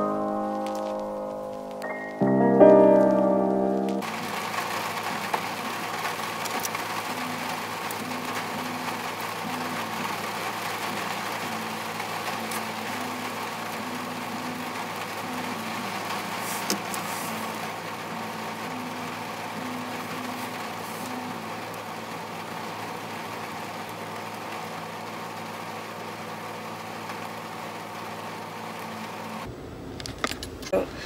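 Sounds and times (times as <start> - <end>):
low steady hum: 0.0 - 25.8
rain on car roof: 0.0 - 30.7.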